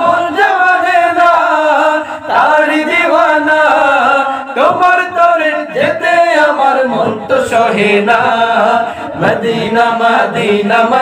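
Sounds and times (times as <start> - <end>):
men singing unaccompanied: 0.0 - 11.0.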